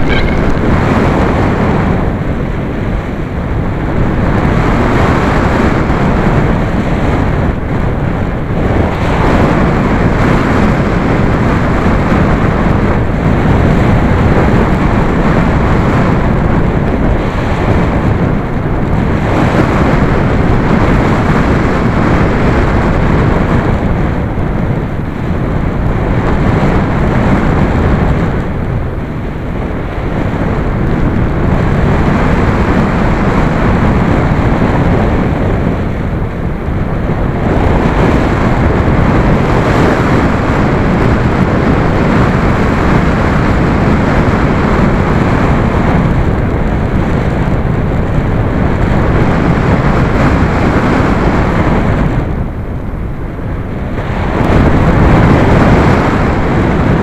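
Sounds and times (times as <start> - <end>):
wind rushing past microphone: 0.0 - 57.0.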